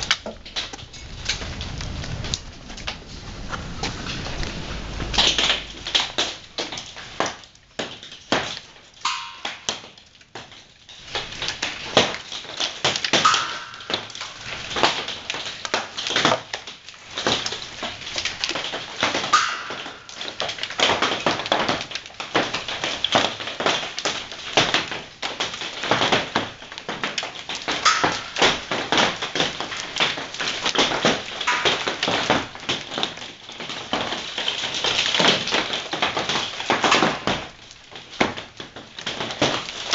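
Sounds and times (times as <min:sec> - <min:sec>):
hailstones rattling: 0:00.0 - 0:39.9.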